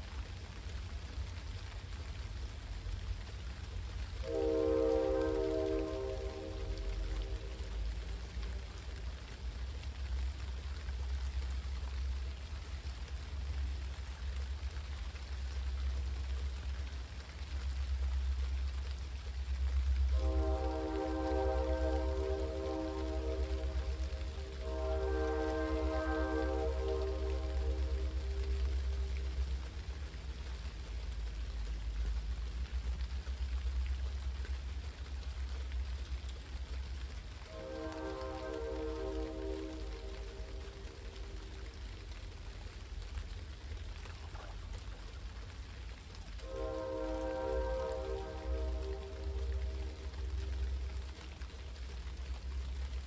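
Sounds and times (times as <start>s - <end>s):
constant low rumble: 0.0s - 53.0s
small drips: 0.0s - 53.0s
steady rain falling: 0.0s - 53.0s.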